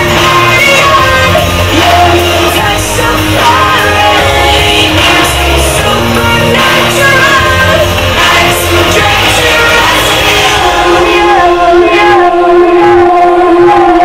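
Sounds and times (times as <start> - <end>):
heavy bass line: 0.0 - 14.0
loud music with singing: 0.0 - 14.0.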